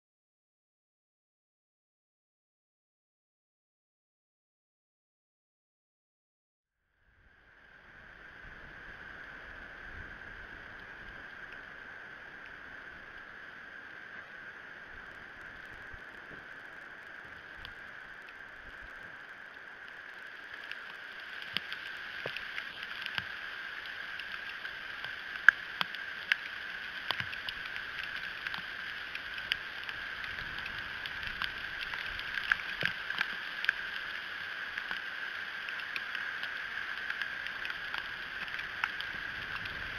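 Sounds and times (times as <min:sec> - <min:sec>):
steady hiss: 0:07.2 - 0:39.9.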